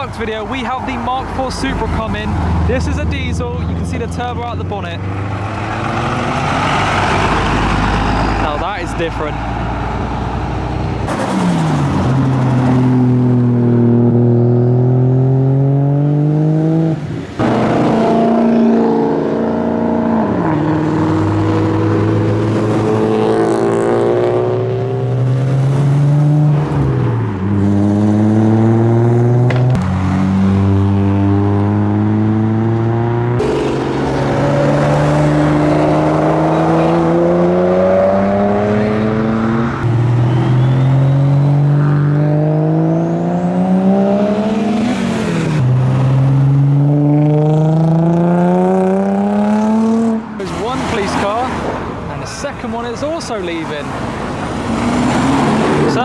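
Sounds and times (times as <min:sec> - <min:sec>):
car engines accelerating hard: 0:00.0 - 0:56.0.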